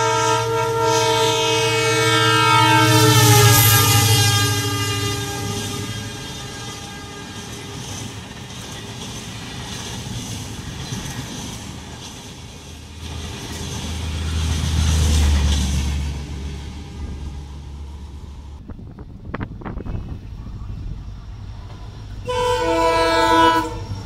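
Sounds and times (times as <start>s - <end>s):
train passing at speed: 0.0s - 24.0s
rail clatter: 3.0s - 24.0s.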